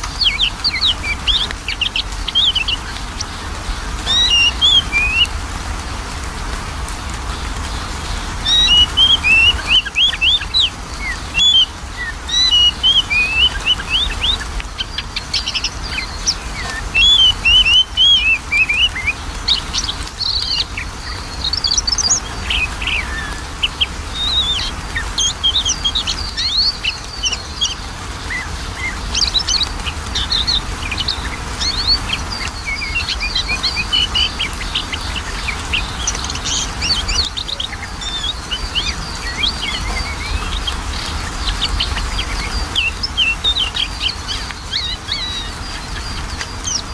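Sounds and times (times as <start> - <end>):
bird singing whistles and chirps: 0.0 - 3.3, 4.0 - 5.3, 8.4 - 46.9.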